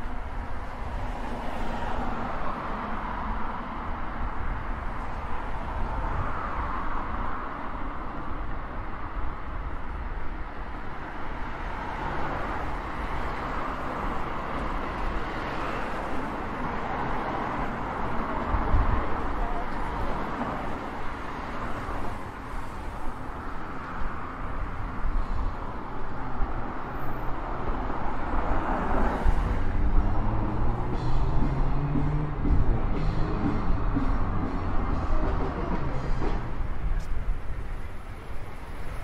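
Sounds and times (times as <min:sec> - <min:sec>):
low traffic rumble: 0:00.0 - 0:39.0.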